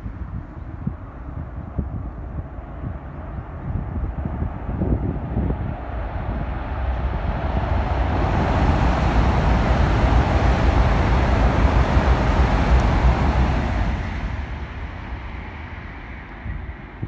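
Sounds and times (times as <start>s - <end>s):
wind buffeting microphone: 0.0s - 17.0s
train passing at speed: 2.6s - 17.0s.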